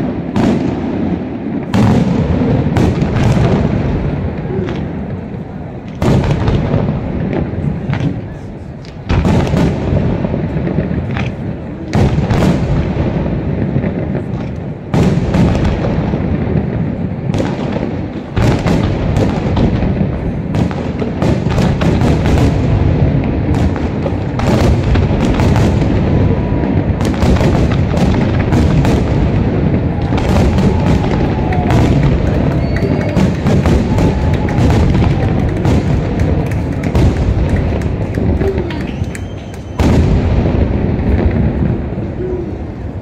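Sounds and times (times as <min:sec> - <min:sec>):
fireworks booming and crackling: 0:00.0 - 0:43.0.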